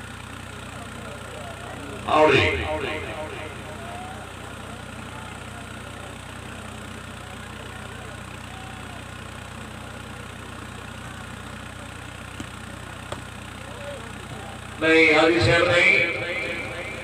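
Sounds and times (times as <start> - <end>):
steady low hum: 0.0 - 8.4, 9.4 - 17.0
faint crowd voices: 0.0 - 17.0.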